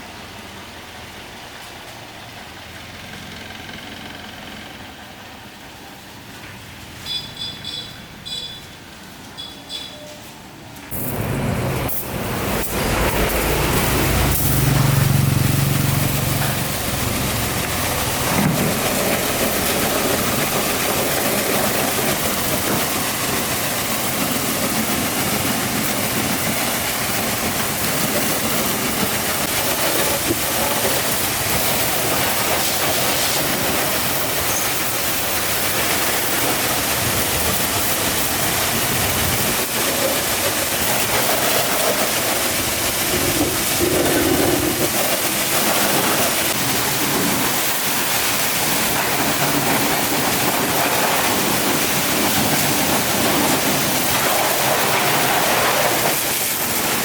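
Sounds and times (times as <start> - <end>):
water spraying hiss: 10.9 - 57.0.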